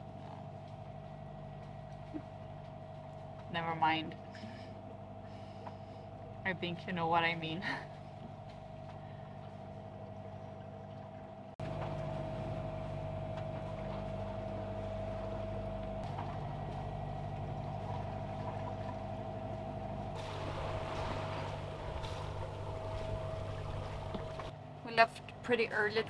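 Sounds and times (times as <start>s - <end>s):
diesel engine humming and whining: 0.0s - 26.0s.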